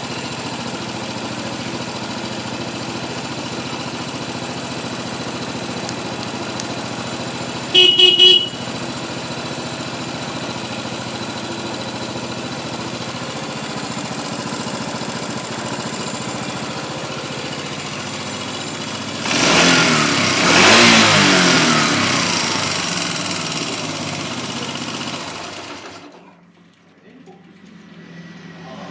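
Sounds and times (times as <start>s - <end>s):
motorcycle engine idling and revving: 0.0s - 26.2s, 27.5s - 28.9s.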